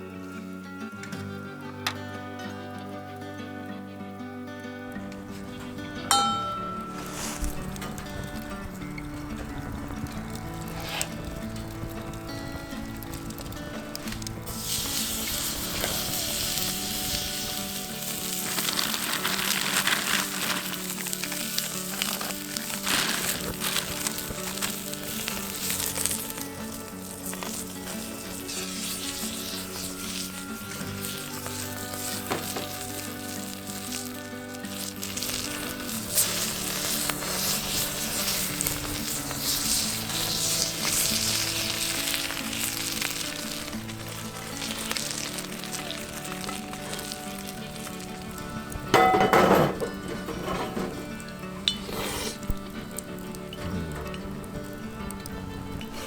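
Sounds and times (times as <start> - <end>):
background music: 0.0 - 56.0
food sizzling in pan: 4.9 - 56.0
small pops and crackles: 6.9 - 56.0.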